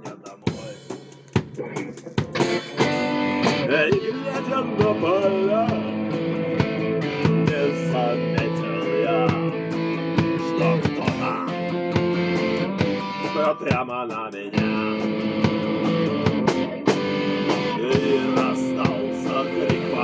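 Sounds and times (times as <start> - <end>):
steady drum beat: 0.0 - 20.0
electric guitar gliding notes: 2.4 - 13.6, 14.6 - 20.0.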